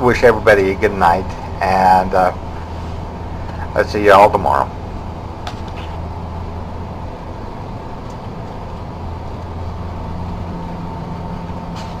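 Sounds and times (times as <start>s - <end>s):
car engine and road hum: 0.6s - 12.0s.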